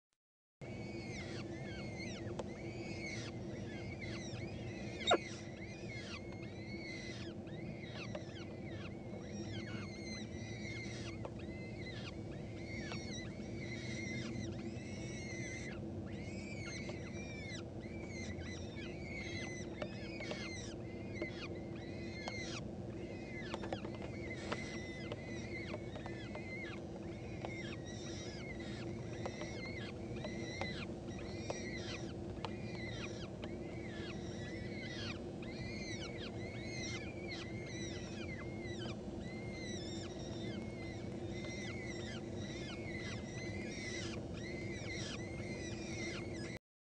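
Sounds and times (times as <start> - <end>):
falcon chicks cheeping: 0.6 - 46.6
steady low hum: 0.6 - 46.6.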